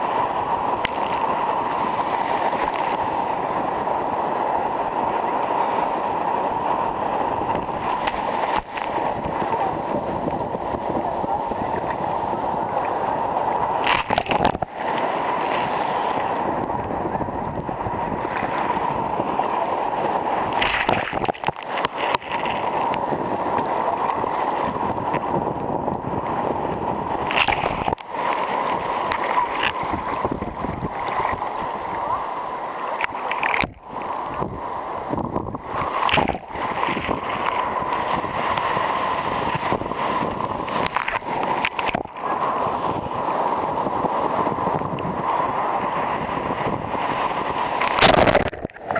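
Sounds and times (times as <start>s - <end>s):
churning surf rushing: 0.0s - 48.9s
water splashes: 0.0s - 48.9s.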